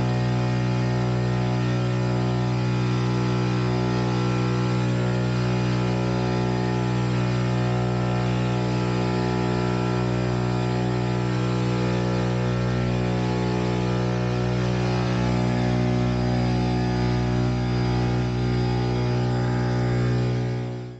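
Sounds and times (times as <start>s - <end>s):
electric propeller running: 0.0s - 20.9s.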